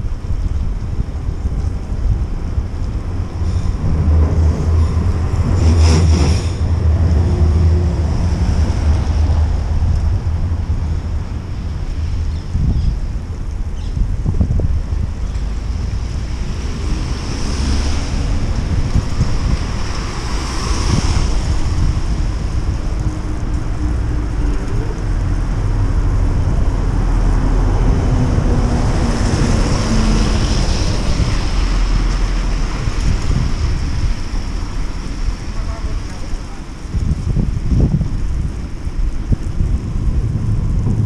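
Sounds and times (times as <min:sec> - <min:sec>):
tyres hissing on wet pavement: 0:00.0 - 0:41.0
wind rushing over microphone: 0:00.0 - 0:41.0.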